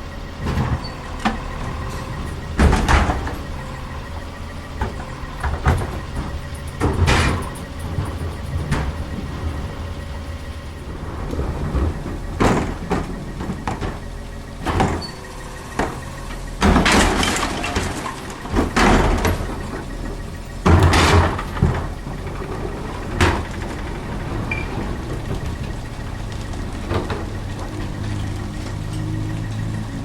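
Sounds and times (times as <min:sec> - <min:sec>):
garbage truck idling: 0:00.0 - 0:30.0
loud noisy bursts from hopper: 0:00.0 - 0:30.0.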